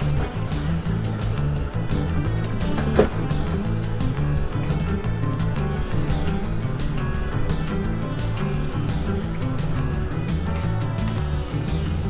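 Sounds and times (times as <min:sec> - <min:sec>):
background music with bass: 0:00.0 - 0:12.0
steady drum beat: 0:00.0 - 0:12.0.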